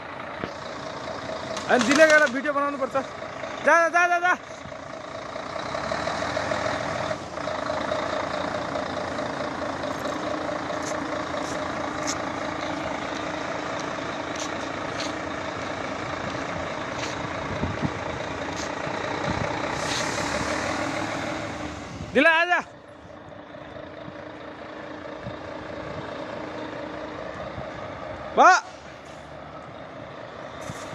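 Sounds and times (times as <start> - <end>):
truck engine running: 0.0 - 30.9.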